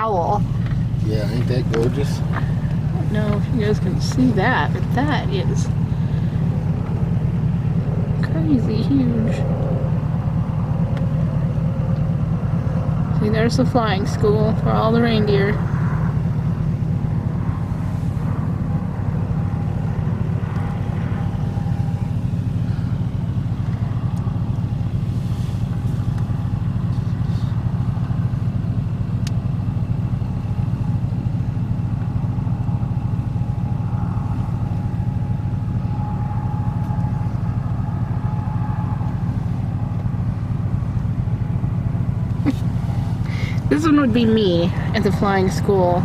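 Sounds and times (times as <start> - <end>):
car engine hum: 0.0 - 46.0
road noise: 0.0 - 46.0.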